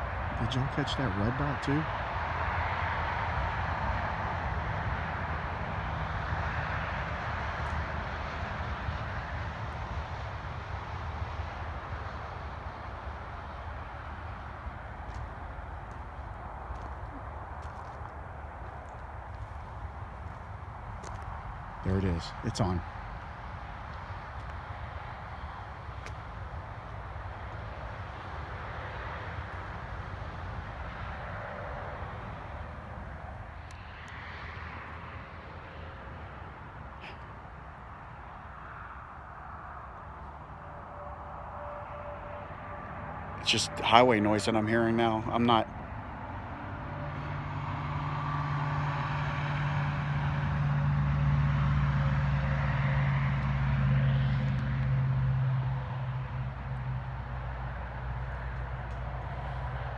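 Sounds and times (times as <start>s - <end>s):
distant highway traffic: 0.0s - 59.9s
vehicle engine hum: 0.0s - 59.9s.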